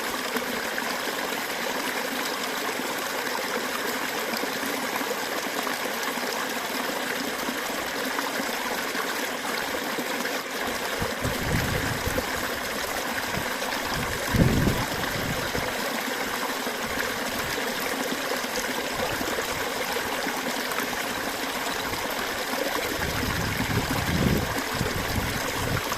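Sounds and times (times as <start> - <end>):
running water rushing: 0.0 - 25.9.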